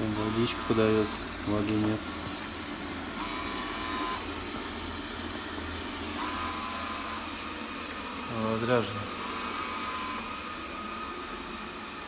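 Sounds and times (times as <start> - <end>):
robot vacuum cleaner running: 0.0 - 12.0.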